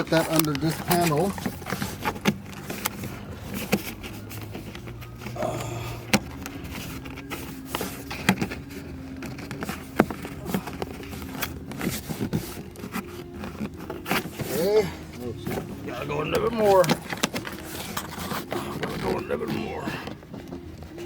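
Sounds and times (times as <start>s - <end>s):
rustling of wiring: 0.0s - 21.0s.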